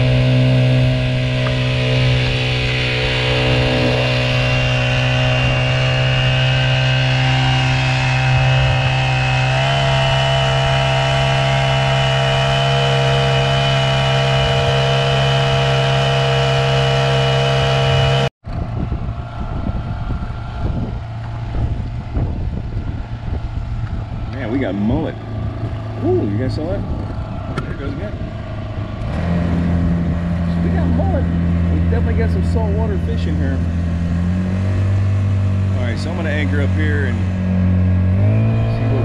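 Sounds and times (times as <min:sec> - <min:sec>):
wind and water noise: 0:00.0 - 0:17.8, 0:18.4 - 0:39.0
outboard motor running: 0:00.0 - 0:39.0.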